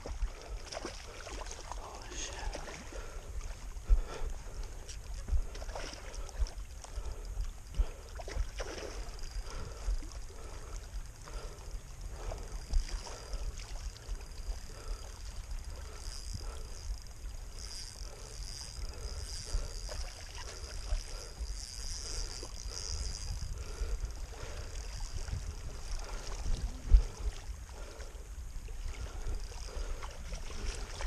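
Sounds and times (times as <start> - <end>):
water lapping at shore: 0.0 - 31.0
wind rumbling on microphone: 0.0 - 31.0.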